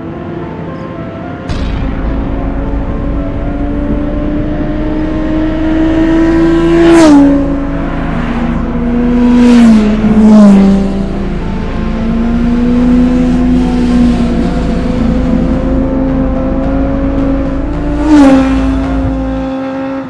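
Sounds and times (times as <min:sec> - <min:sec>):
rush of noise: 0:01.2 - 0:19.5
motorcycle engine running: 0:01.5 - 0:20.0.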